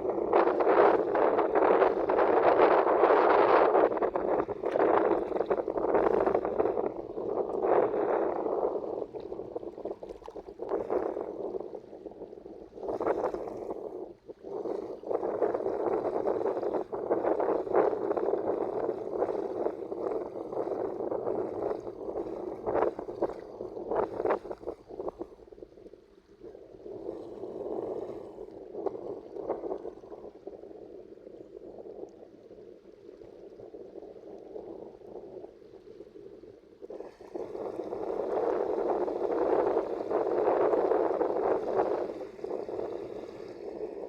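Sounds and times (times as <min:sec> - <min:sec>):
sea water splashing and lapping: 0:00.0 - 0:44.0.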